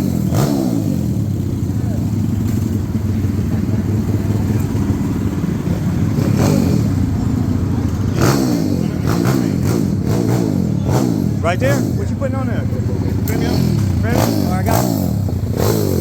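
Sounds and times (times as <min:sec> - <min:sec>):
minibike engine revving: 0:00.0 - 0:16.0.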